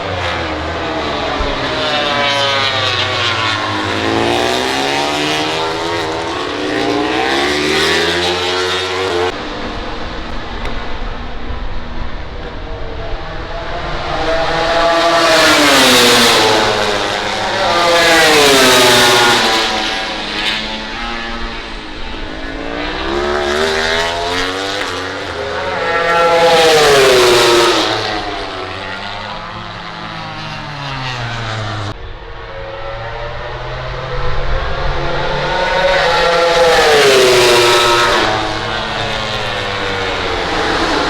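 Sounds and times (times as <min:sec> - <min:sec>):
race motorcycles passing at speed: 0:00.0 - 0:41.0.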